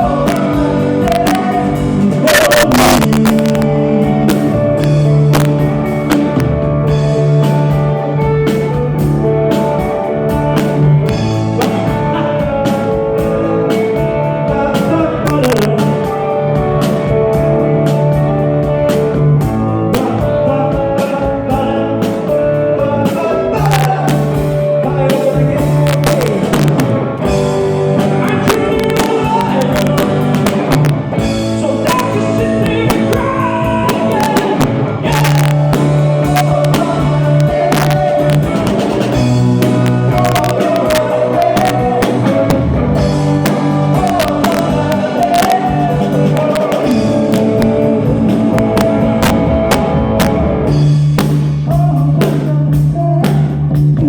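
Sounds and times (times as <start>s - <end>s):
person singing: 0.0s - 50.8s, 51.6s - 54.0s
rock band playing live: 0.0s - 54.0s.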